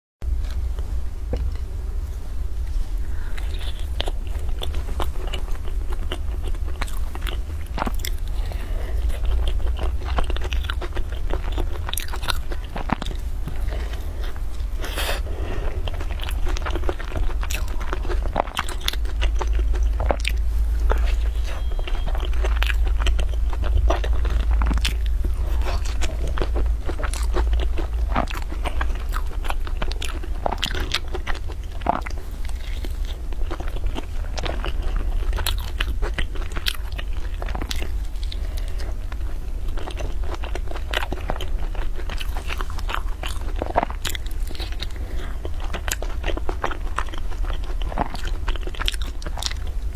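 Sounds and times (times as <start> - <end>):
steady low hum: 0.2 - 49.9
crunching flaky pastry: 2.6 - 49.9.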